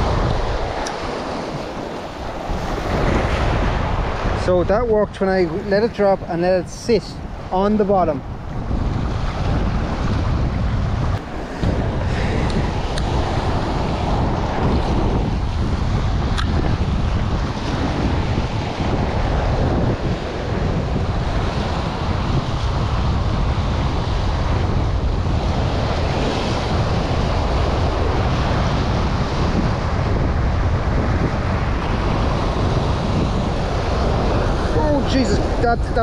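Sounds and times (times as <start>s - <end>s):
surf washing over rocks: 0.0s - 36.0s
wind buffeting microphone: 0.0s - 36.0s.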